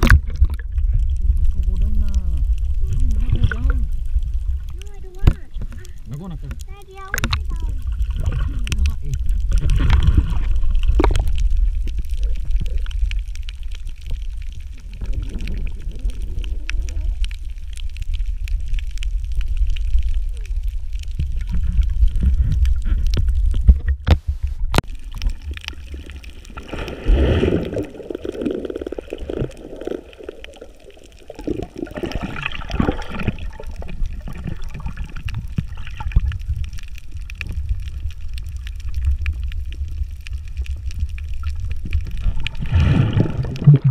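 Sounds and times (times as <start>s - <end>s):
muffled water gurgling: 0.0s - 43.9s
underwater rumble of moving water: 0.0s - 43.9s.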